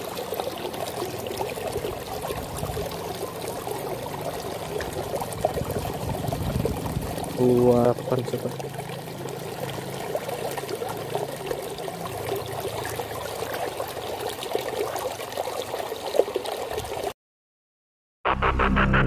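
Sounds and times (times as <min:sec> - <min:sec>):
water trickling and splashing: 0:00.0 - 0:17.2.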